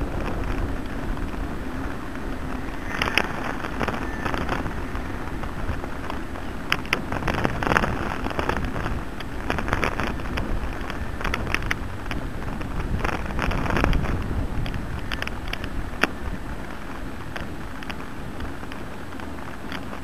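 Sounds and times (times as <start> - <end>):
bike rattling over rough pavement: 0.0 - 20.0
wind on microphone: 0.0 - 20.0.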